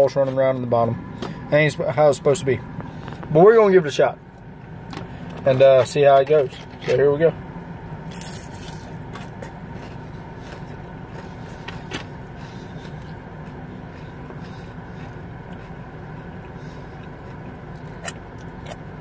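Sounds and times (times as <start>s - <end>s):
car engine humming: 0.0s - 19.0s.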